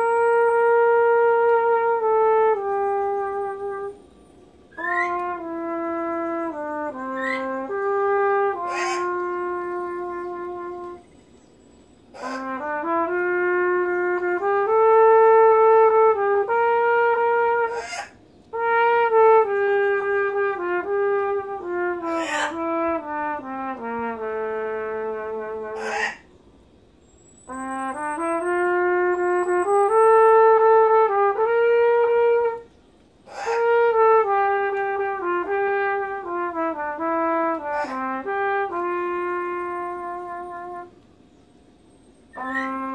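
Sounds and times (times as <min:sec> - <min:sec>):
solo trumpet melody: 0:00.0 - 0:42.9.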